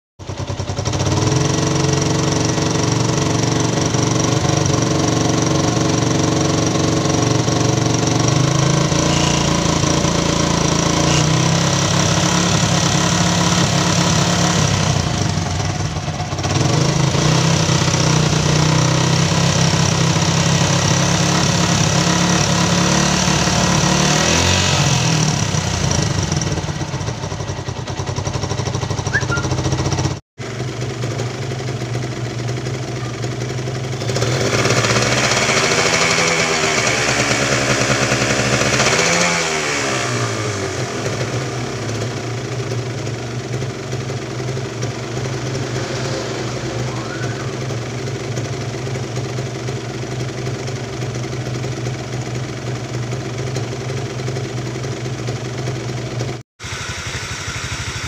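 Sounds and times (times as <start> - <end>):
motorcycle engine running: 0.2 - 58.0.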